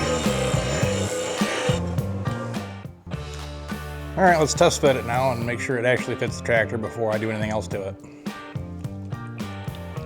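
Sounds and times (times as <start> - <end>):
rhythmic background music: 0.0 - 10.0.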